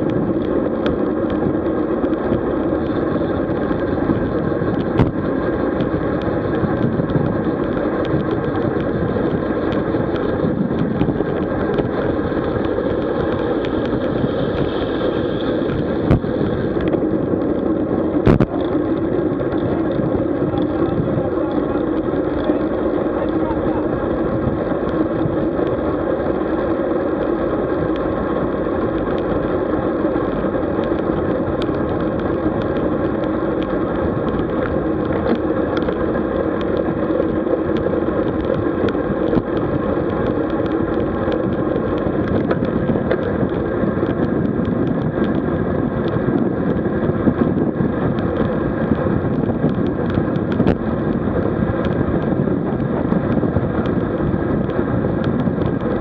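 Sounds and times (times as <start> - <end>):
bicycle tyre noise: 0.0 - 56.0
wind noise: 0.0 - 56.0.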